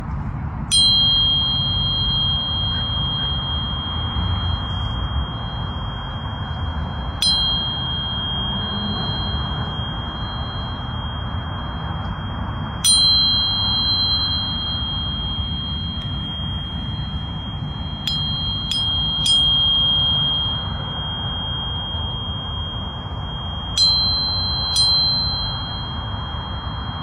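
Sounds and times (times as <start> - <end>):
high ringing tone strikes: 0.0 - 27.0
steady hiss with low rumble: 0.0 - 27.0.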